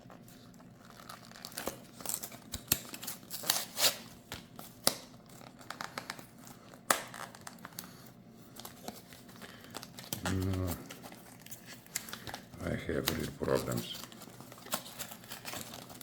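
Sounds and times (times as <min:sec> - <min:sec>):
packaging crinkling and tearing: 0:00.0 - 0:16.0
packaging clicks and snaps: 0:00.8 - 0:07.9, 0:08.5 - 0:16.0.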